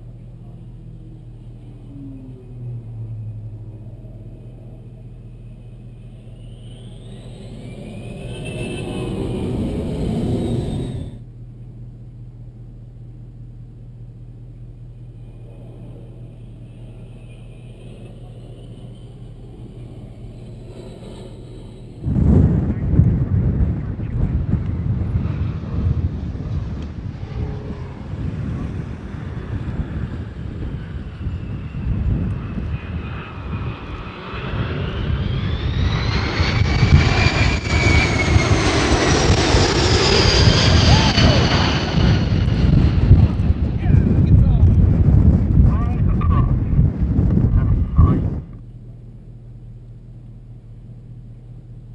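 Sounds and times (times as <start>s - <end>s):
faint jet aircraft passing: 0.0s - 51.9s
vehicle idling drone: 0.0s - 51.9s.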